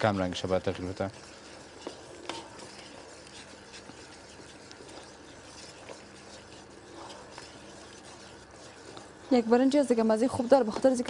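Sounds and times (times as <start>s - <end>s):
wooden spoon stirring in pot: 0.0s - 11.0s.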